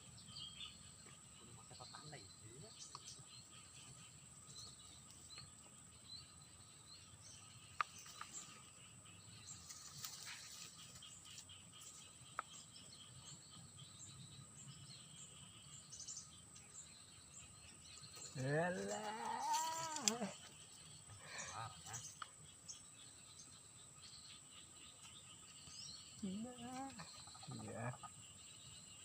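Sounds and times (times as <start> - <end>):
high insect drone: 0.0 - 29.0
small birds chirping: 0.0 - 29.0.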